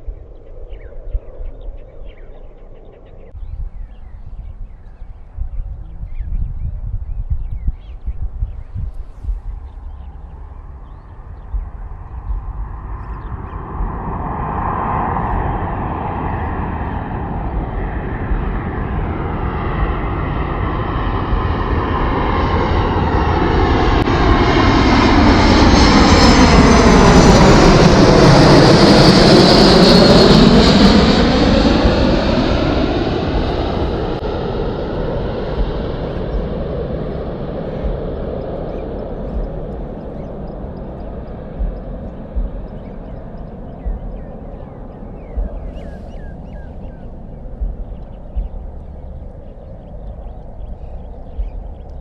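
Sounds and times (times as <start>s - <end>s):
airliner engine noise: 0.0s - 52.0s
high engine whine: 8.4s - 52.0s.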